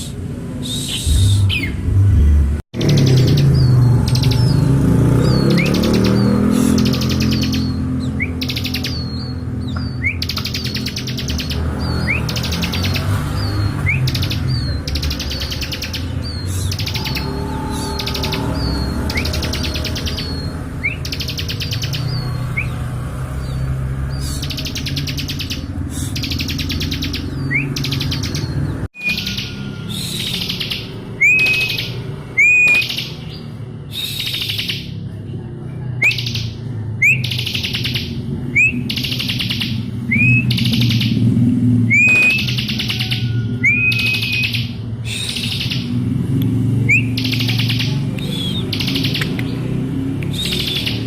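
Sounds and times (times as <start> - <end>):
bird trilling song: 0.0 - 2.0, 2.8 - 51.0.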